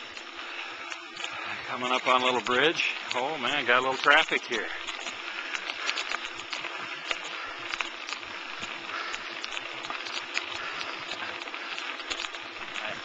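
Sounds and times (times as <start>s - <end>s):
bicycle ticks and rattles: 0.0s - 13.0s
bicycle tyres rolling: 0.0s - 13.0s.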